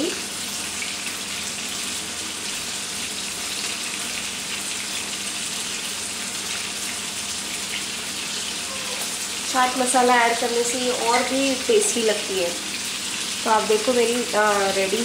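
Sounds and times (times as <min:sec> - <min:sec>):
steady kitchen hiss: 0:00.0 - 0:15.0.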